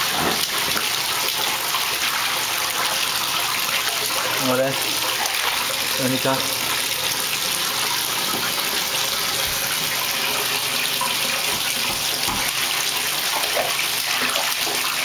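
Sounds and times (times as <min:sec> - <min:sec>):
faucet pouring into bathtub: 0:00.0 - 0:15.0.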